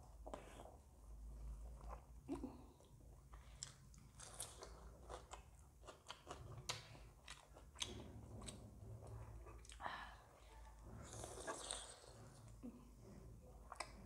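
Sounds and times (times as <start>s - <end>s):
faint chewing with crunchy clicks: 0.0s - 14.0s.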